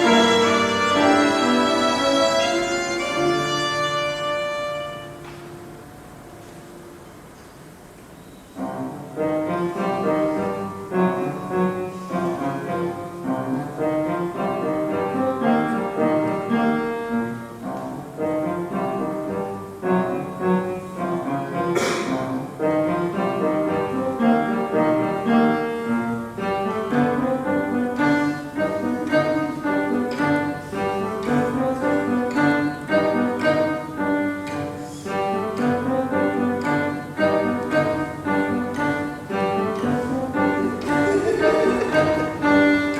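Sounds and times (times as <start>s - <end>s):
piano trio classical piece: 0.0s - 42.9s.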